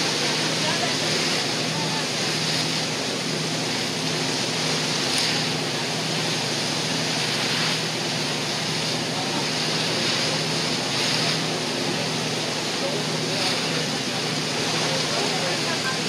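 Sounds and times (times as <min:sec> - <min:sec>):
boat engine humming: 0:00.0 - 0:16.0
boat wake splashing along hull: 0:00.0 - 0:16.0.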